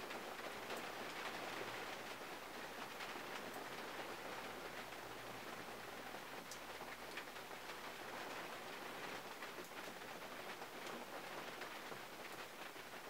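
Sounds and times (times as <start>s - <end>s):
rain on a car: 0.0s - 13.0s.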